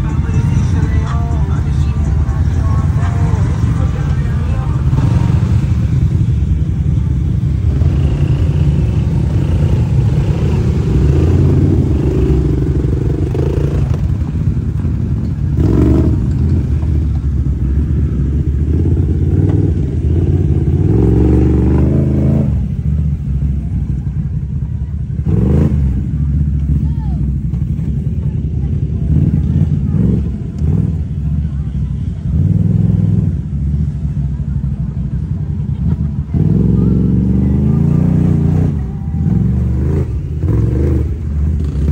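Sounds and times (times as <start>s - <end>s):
atv engines revving in mud: 0.0s - 41.9s.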